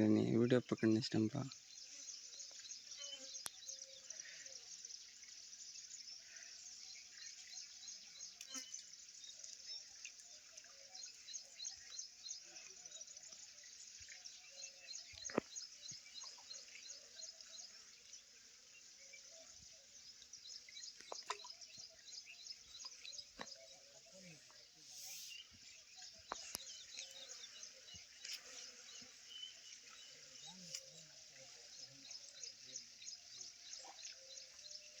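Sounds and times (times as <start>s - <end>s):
insects chirping: 0.0s - 35.0s.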